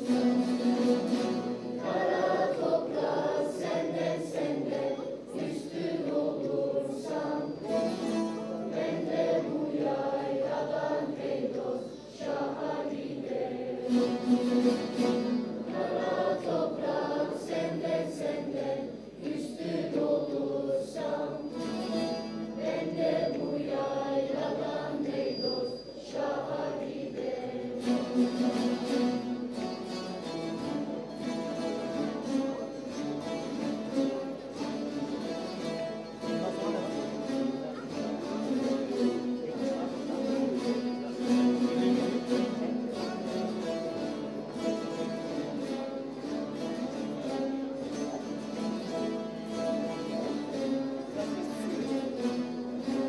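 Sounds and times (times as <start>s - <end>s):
ensemble of lutes playing: 0.0s - 53.0s.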